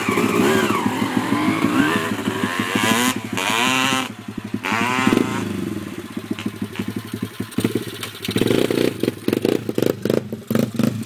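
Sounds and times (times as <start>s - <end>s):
motocross engine accelerating: 0.0s - 11.0s.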